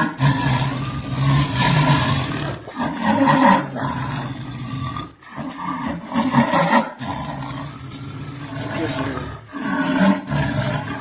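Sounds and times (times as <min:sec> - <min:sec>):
jaguar roaring and growling: 0:00.0 - 0:11.0.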